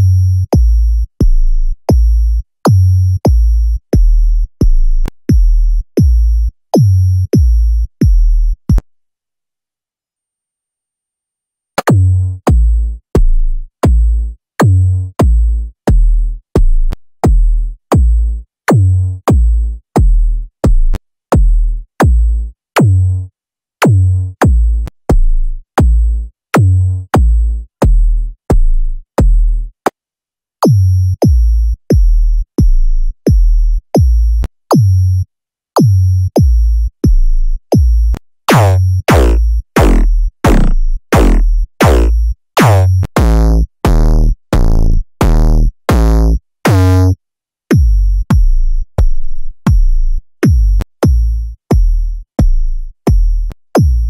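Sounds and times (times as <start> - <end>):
electronic kick drums: 0.6 - 8.8, 11.8 - 23.0, 23.8 - 29.6, 30.6 - 35.0, 35.8 - 54.0.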